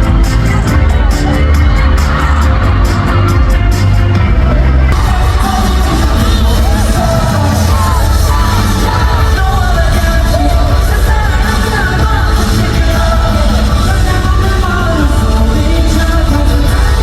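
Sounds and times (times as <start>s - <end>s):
amplified backing music with heavy bass: 0.0s - 17.0s
fans yelling along: 0.0s - 17.0s
person singing live: 0.0s - 17.0s.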